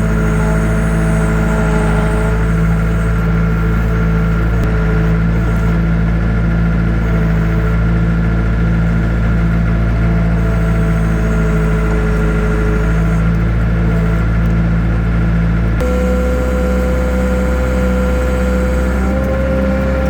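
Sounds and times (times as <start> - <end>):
vehicle engine running steadily: 0.0 - 20.0.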